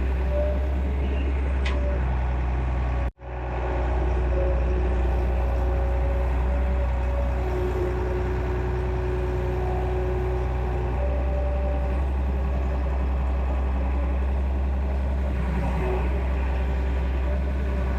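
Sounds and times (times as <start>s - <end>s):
excavator diesel engine running: 0.0s - 17.9s.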